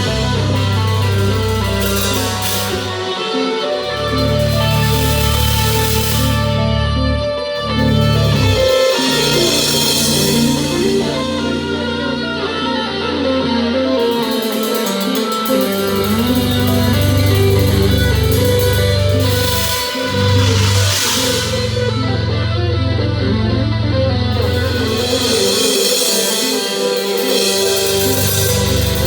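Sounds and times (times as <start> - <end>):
sustained low bass notes: 0.0 - 14.2, 15.6 - 25.7, 27.8 - 29.0
plucked melodic notes: 0.0 - 29.0.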